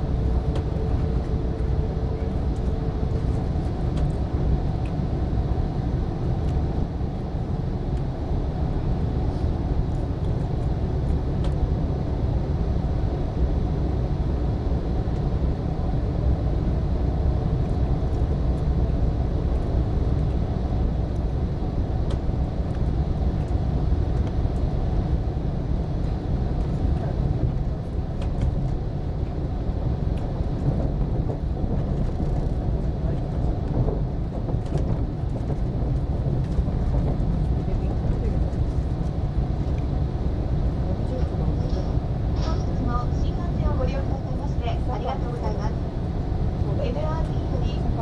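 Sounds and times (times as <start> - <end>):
train running rumble: 0.0 - 48.0.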